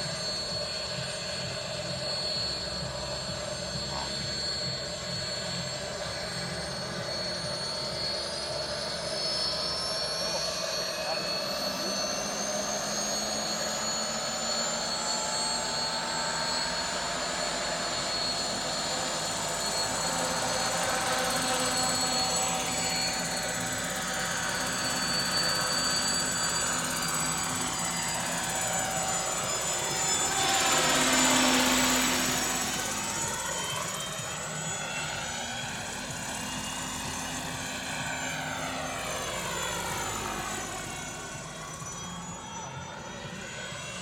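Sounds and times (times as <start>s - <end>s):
model helicopter whine and rotors: 0.0s - 44.0s.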